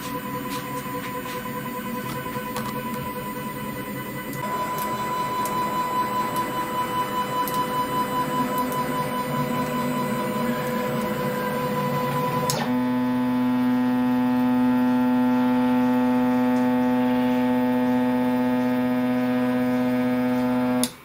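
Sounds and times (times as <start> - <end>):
stepper motor whine: 0.0 - 20.9.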